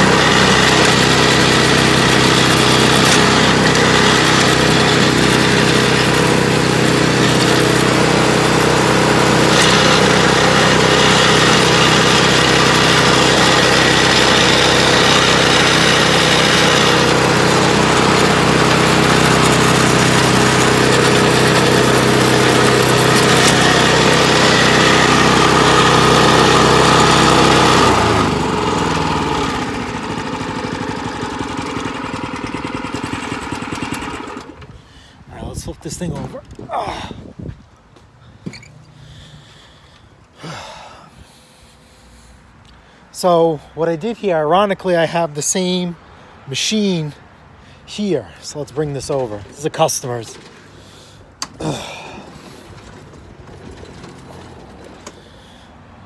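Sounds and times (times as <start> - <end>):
snowblower engine running: 0.0 - 37.1, 47.8 - 56.0.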